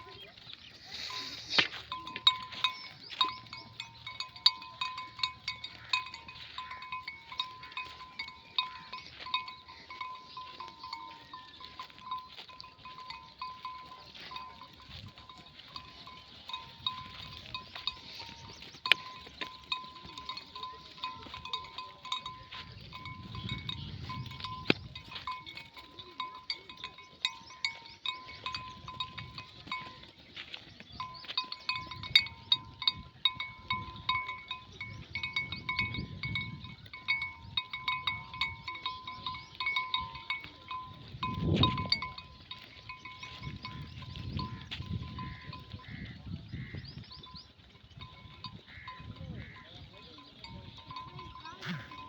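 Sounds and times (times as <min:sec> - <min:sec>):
sheep bells clanking: 0:00.0 - 0:52.0.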